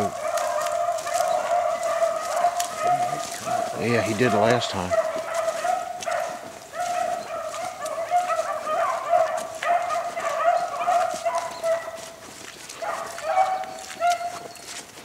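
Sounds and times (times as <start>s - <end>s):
beagles baying: 0.0s - 15.0s.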